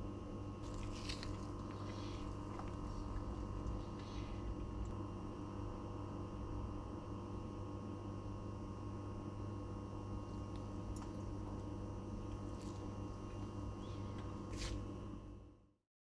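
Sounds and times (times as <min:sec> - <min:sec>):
low electrical hum: 0:00.0 - 0:15.8.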